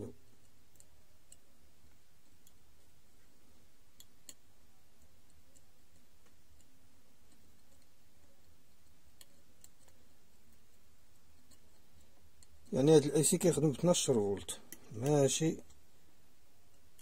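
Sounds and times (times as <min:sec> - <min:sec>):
low steady hum: 0:00.0 - 0:17.0
probe tips clicking on pins: 0:00.2 - 0:15.9.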